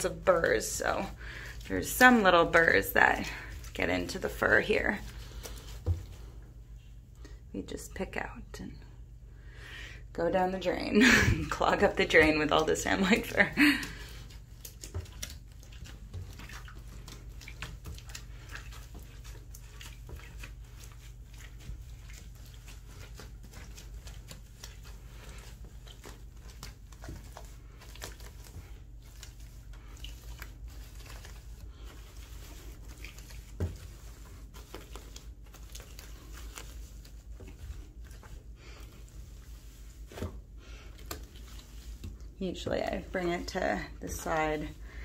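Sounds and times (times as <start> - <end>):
hand squishing wet fur: 0.0 - 7.1, 10.6 - 45.0.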